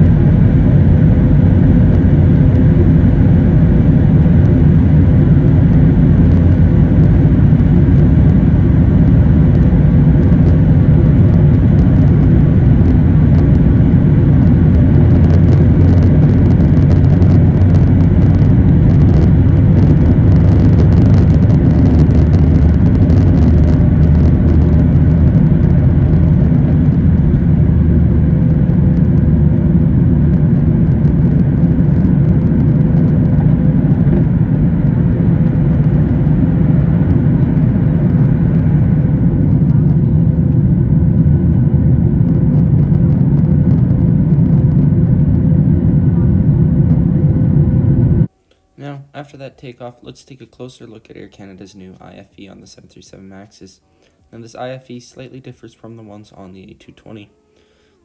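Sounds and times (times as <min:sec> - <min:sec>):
wheels rattling on runway: 0:00.0 - 0:47.4
jet engines low rumble: 0:00.0 - 0:58.0.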